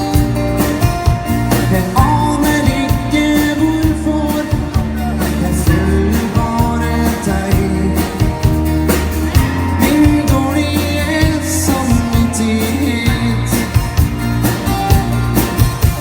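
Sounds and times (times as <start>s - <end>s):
pop-rock band playing: 0.0s - 16.0s.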